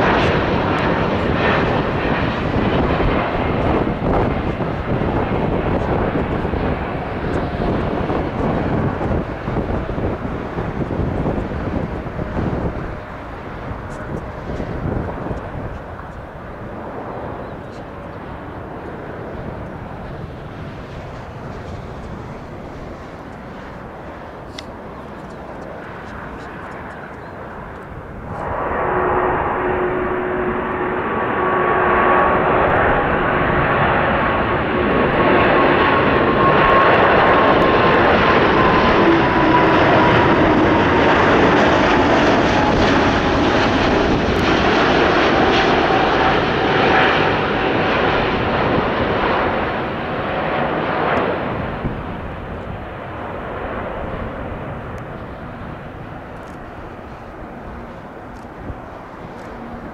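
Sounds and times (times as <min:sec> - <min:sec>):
jet engine rumble with whine: 0:00.0 - 0:59.9.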